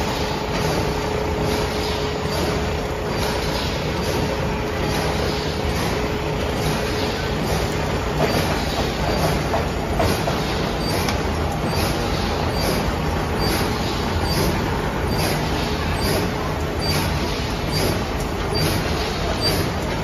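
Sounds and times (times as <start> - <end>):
light machine clack: 0.1 - 20.0.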